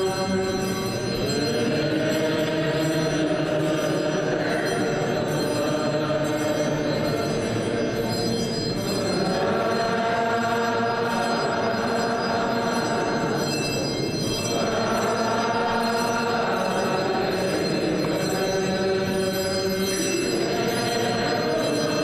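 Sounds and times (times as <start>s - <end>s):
clanging bell ringing: 0.0s - 22.0s
voices singing chant: 0.0s - 22.0s.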